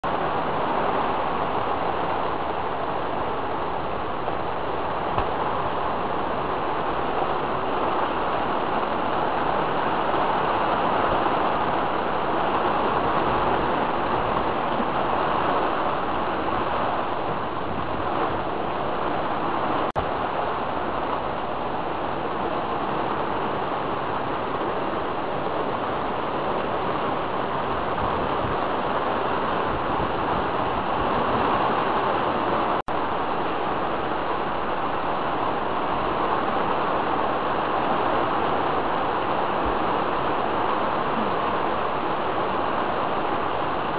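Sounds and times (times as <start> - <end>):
heavy rain: 0.0 - 43.9
storm wind: 0.0 - 43.9.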